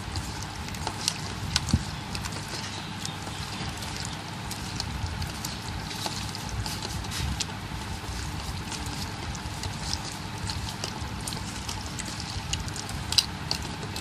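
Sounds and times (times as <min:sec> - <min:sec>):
wet squelching of prawns in batter: 0:00.0 - 0:14.0.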